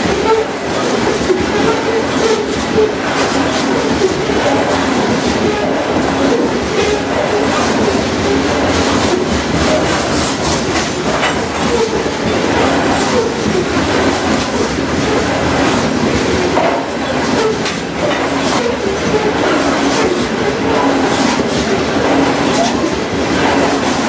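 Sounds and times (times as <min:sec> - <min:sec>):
steel wheels rumbling on rail: 0:00.0 - 0:24.0
wheels clacking on crossing: 0:00.0 - 0:24.0.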